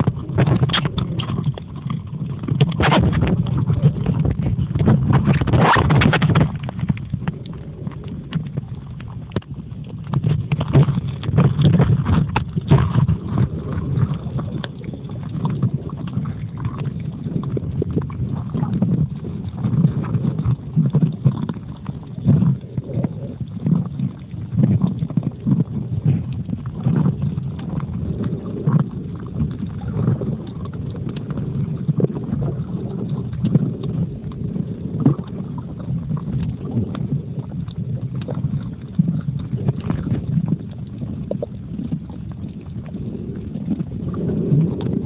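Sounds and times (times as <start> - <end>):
muffled underwater rumble: 0.0 - 45.0.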